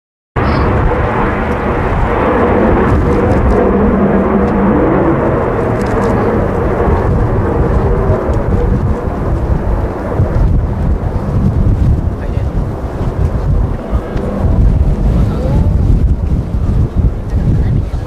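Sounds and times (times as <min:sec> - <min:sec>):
jet engine rumble: 0:00.4 - 0:18.0.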